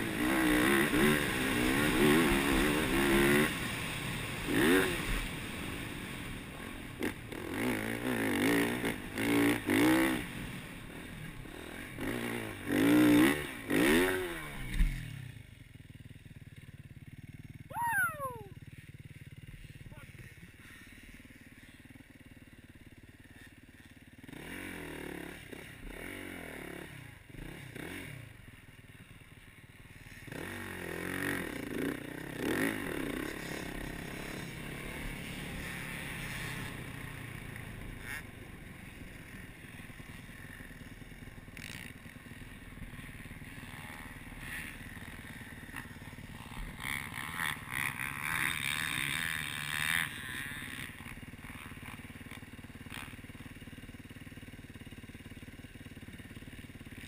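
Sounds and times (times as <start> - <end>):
dirt bike engine revving: 0.0 - 15.4, 17.7 - 54.0.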